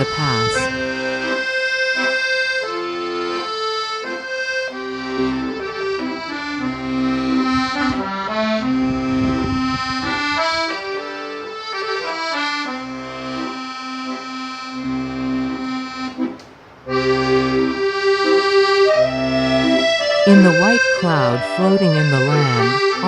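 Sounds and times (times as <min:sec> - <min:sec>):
accordion slow melody: 0:00.0 - 0:23.0.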